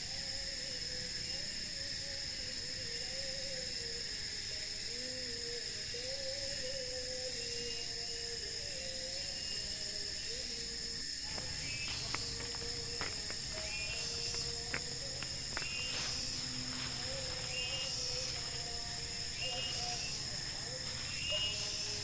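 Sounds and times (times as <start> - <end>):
night insects chorus: 0.0 - 22.0.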